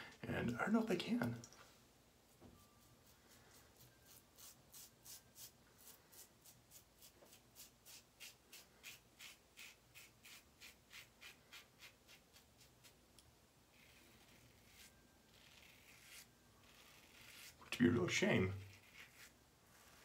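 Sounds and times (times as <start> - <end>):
razor scraping stubble: 2.6 - 13.0, 13.7 - 20.0.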